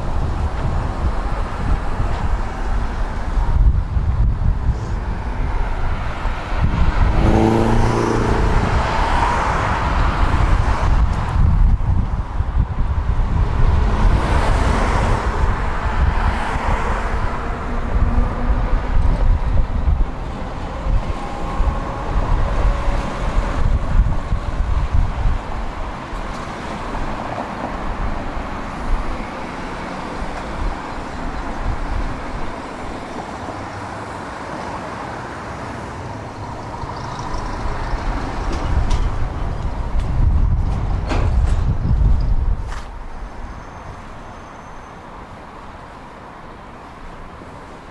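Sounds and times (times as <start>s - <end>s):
tram rumbling on track: 0.0s - 47.9s.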